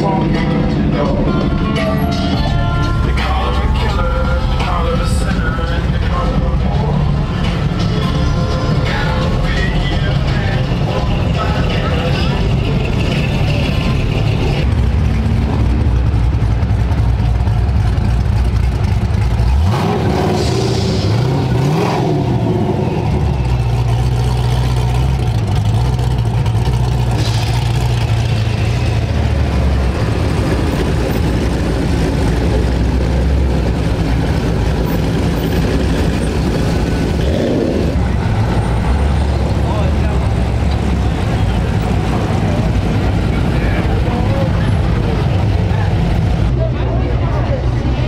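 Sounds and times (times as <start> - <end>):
car and truck engines driving past: 0.0 - 48.0
engine revving: 3.1 - 46.7.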